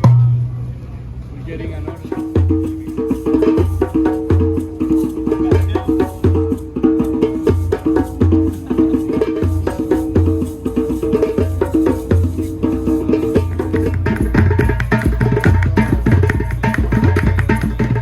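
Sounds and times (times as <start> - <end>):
drum circle playing: 0.0 - 0.6, 1.7 - 18.0.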